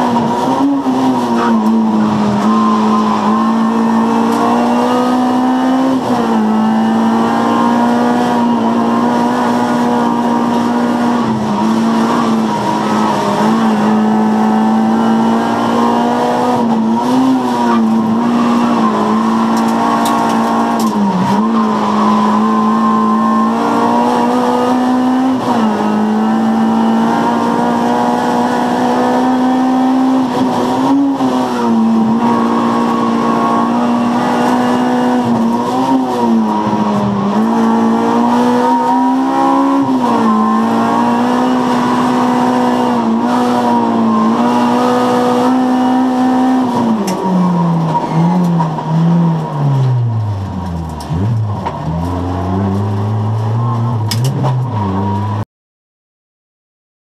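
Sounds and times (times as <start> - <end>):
race car engine at high revs: 0.0 - 55.4.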